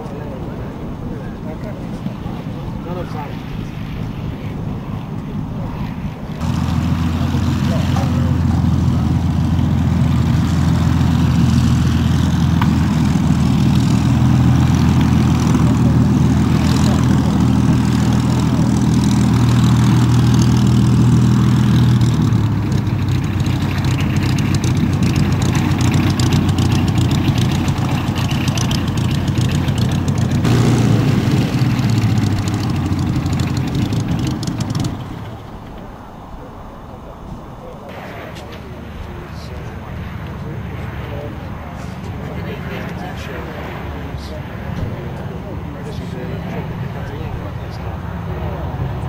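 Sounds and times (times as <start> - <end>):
propeller engine drone: 0.0 - 49.0.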